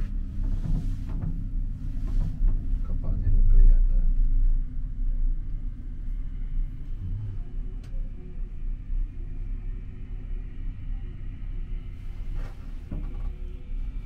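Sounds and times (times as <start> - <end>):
faint steady hum: 0.0 - 14.0
gondola cabin rumble: 0.0 - 14.0.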